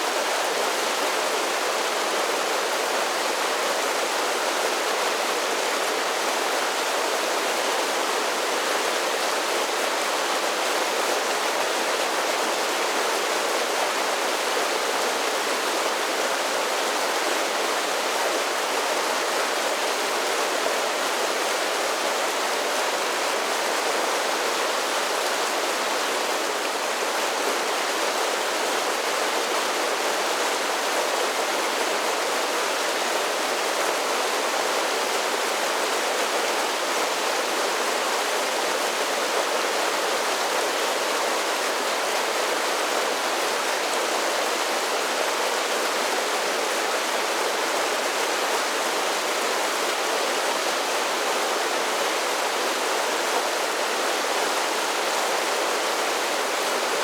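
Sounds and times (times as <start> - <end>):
creek rushing over small falls: 0.0 - 57.0.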